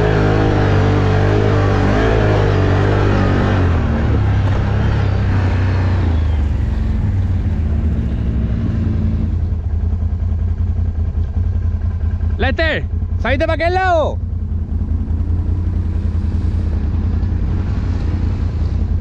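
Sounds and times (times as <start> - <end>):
atv engine running through mud: 0.0 - 13.4, 14.2 - 19.0.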